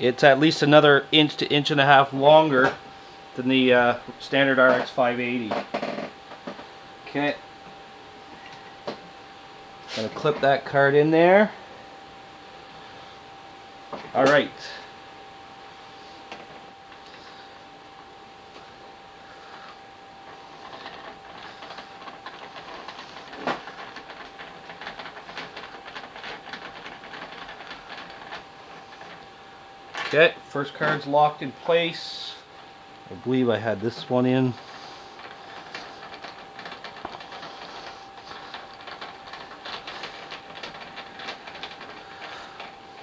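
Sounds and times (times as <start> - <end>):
faint steady whine: 0.0 - 43.0.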